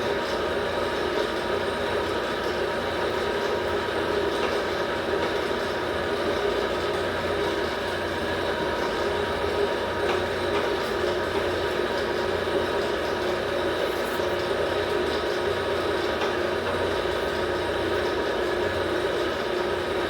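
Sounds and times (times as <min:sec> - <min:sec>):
workshop machine humming: 0:00.0 - 0:20.0.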